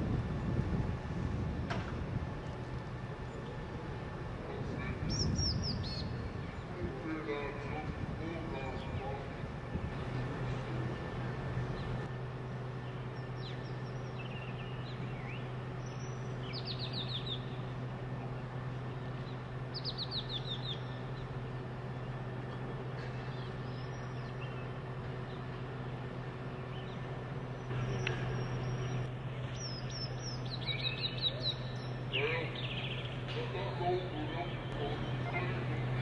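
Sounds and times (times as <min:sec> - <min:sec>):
low hum: 0:00.0 - 0:36.0
birds chirping: 0:02.2 - 0:36.0.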